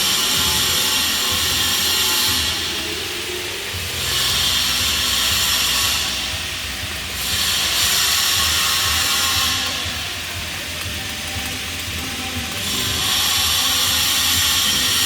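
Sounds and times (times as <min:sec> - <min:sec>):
welding arc hissing and crackling: 0:00.0 - 0:15.0.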